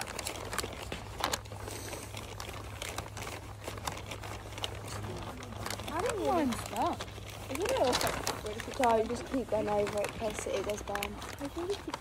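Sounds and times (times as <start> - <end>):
paper bag crinkling: 0.0 - 12.0.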